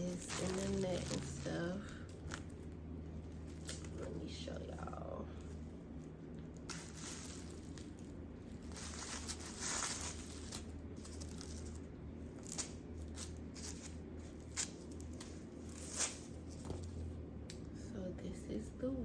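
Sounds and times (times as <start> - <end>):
wig packaging rustling: 0.0 - 17.0.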